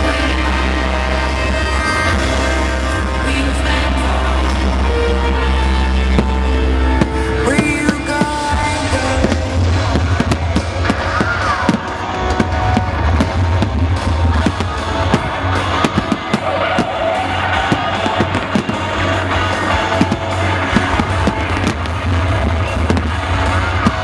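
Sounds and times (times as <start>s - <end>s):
fireworks bursting and crackling: 0.0s - 24.0s
loud music: 0.0s - 24.0s.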